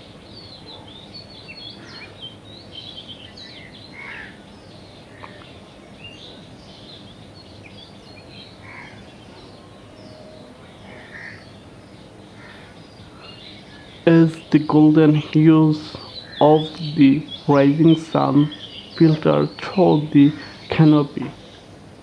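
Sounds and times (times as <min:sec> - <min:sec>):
outdoor ambience hiss: 0:00.0 - 0:22.0
wild birds chirping: 0:00.0 - 0:22.0.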